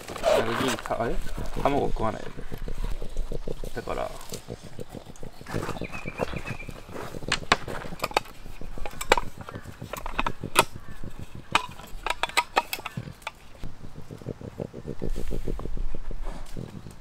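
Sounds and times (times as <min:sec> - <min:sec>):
low rhythmic pulsing: 0:00.0 - 0:17.0.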